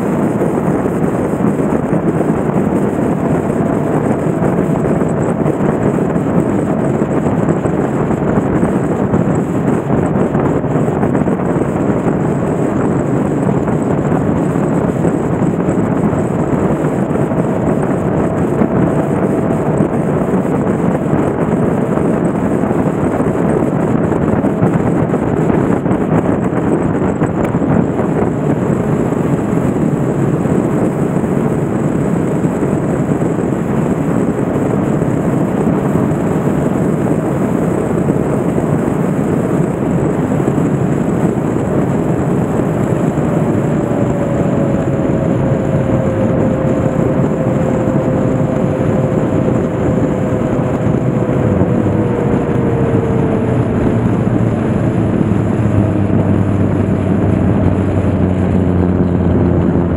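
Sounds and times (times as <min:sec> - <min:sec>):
motorcycle engine: 0:00.0 - 0:59.9
road noise: 0:00.0 - 0:59.9
wind rushing on microphone: 0:00.0 - 0:59.9.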